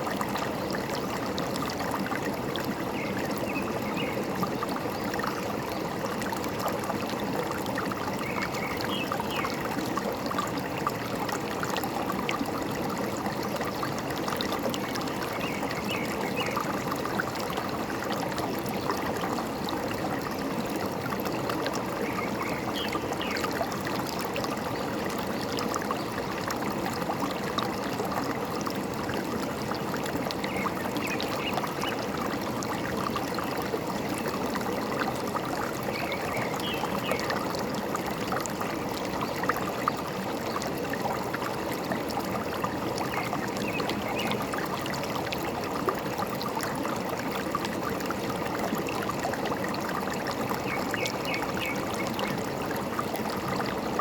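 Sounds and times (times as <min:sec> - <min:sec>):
stream babbling: 0:00.0 - 0:54.0.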